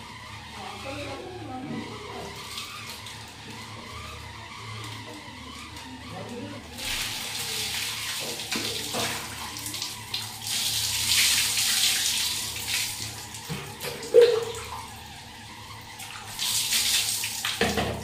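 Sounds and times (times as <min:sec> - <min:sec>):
water pouring and splashing: 0:00.5 - 0:18.0.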